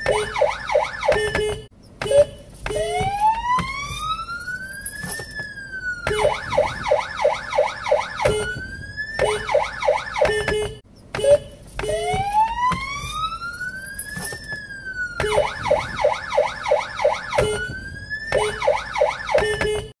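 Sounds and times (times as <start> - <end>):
electronic police siren: 0.0 - 20.0.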